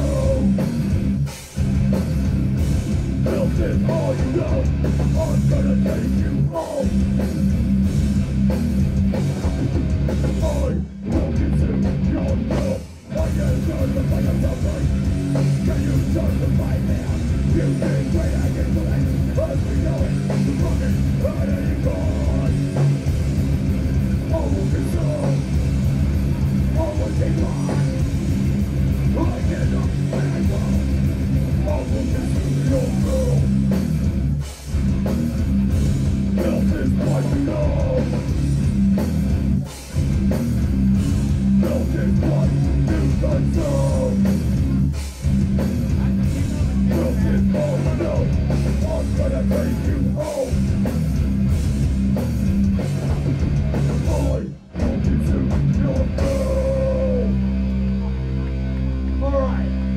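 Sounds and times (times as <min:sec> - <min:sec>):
hardcore band playing live: 0:00.0 - 0:59.9.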